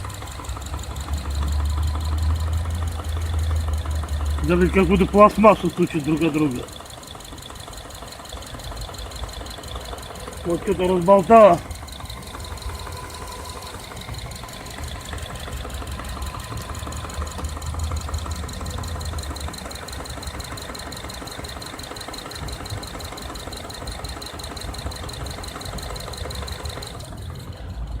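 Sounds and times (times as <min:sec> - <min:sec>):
car engine idling: 0:00.0 - 0:28.0
engine knocking: 0:00.0 - 0:28.0.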